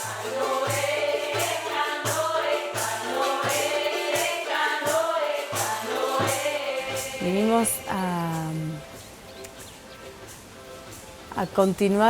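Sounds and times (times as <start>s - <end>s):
voices chanting together: 0.0s - 10.0s.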